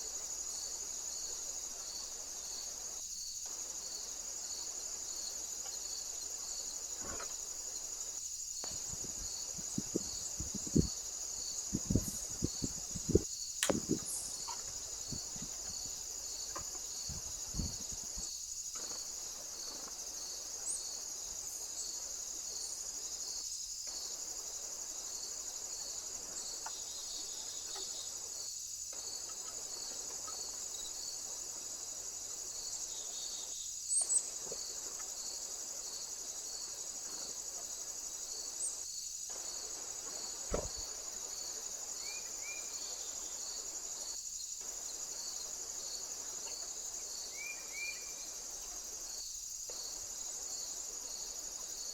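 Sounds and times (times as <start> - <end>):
crickets trilling: 0.0 - 51.9.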